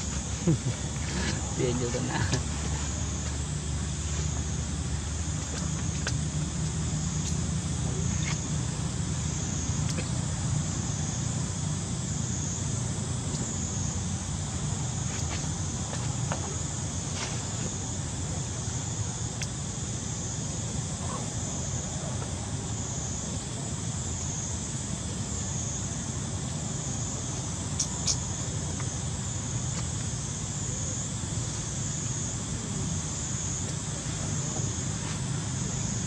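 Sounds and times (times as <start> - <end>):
high insect chorus: 0.0 - 36.0
low steady rumble: 0.0 - 36.0.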